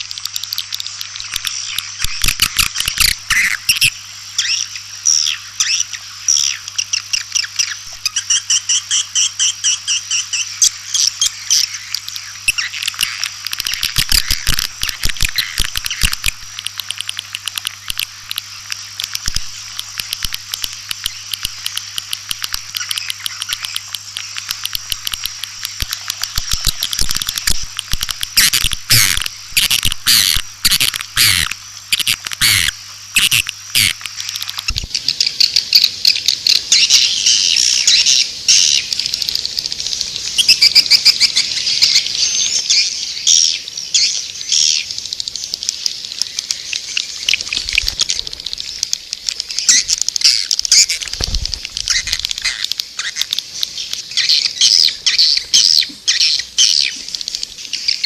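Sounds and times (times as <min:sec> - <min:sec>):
swiftlets twittering chirps: 0:00.0 - 0:58.0.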